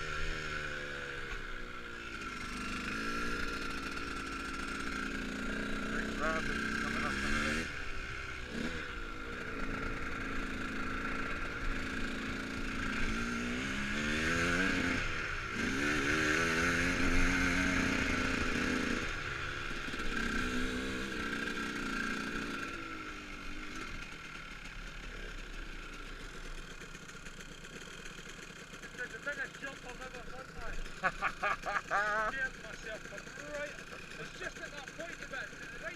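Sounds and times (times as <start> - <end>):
dirt bike motor surging: 0.0 - 35.9.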